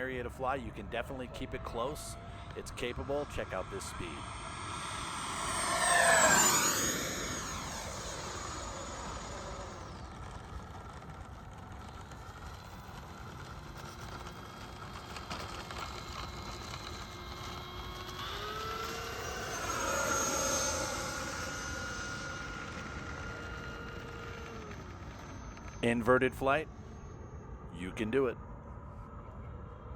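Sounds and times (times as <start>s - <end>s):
electric jet fan whine passing: 0.0s - 29.9s.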